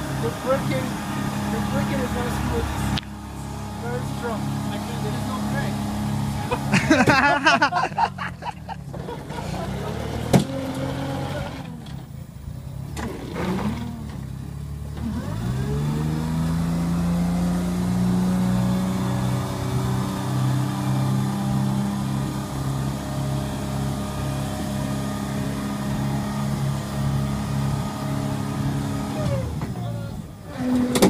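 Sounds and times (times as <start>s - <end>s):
vehicle engine running: 0.0s - 30.8s.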